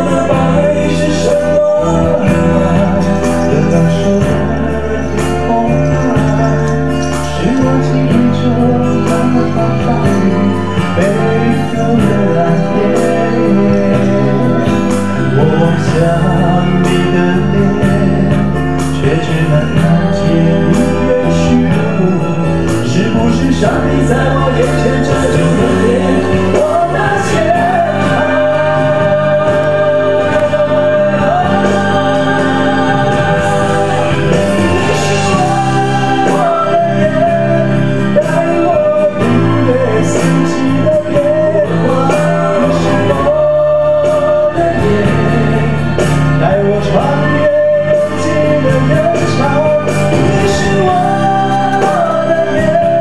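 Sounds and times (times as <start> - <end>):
man singing into a microphone: 0.0 - 53.0
music with chords and beat: 0.0 - 53.0.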